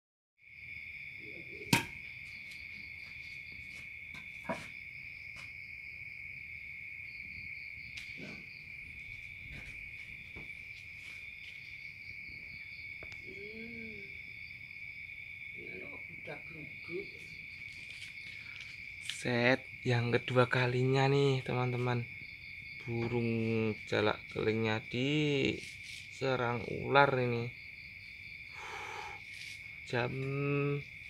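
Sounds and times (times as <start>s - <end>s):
night insects trilling: 0.4s - 31.0s.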